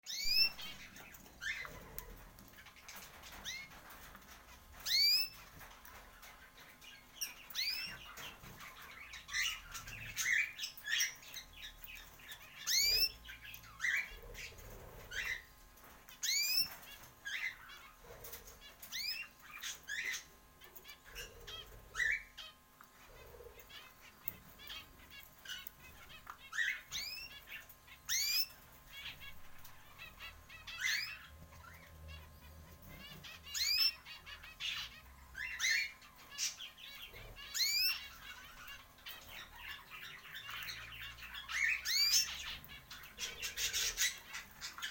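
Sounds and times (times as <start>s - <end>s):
birds chirping and squawking: 0.0s - 44.9s.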